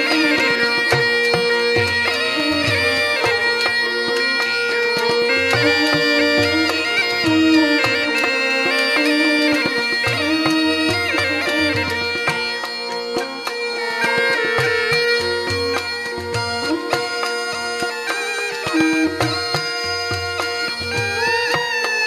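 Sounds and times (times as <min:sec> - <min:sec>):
gourd pipe melody with drone: 0:00.0 - 0:21.4.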